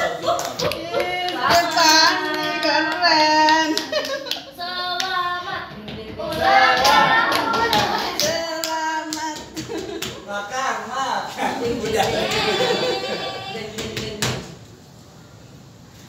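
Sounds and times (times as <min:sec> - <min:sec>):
group clapping: 0:00.0 - 0:10.3, 0:11.4 - 0:14.5
voices calling in sing-song tones: 0:00.0 - 0:14.5.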